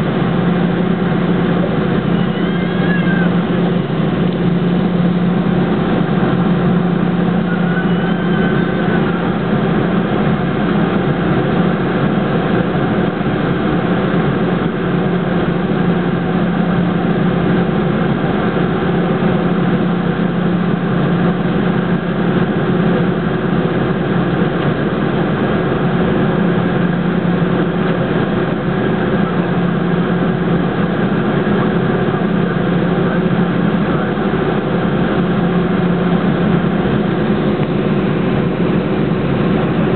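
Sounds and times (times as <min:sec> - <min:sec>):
jet engines idling in cabin: 0:00.0 - 0:39.9.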